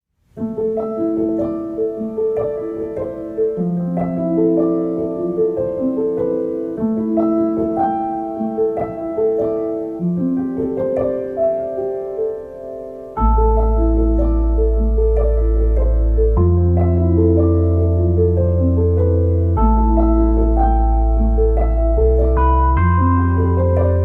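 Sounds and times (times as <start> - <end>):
slow piano music: 0.2 - 24.0.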